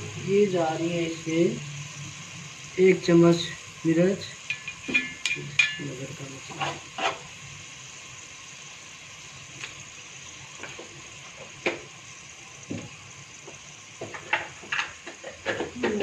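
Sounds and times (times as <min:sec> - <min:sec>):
hot oil sizzling in a pot: 0:00.0 - 0:16.0.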